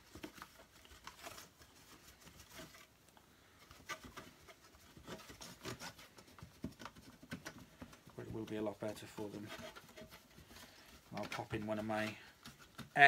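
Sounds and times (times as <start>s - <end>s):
rubbing on plastic: 0.0s - 13.0s.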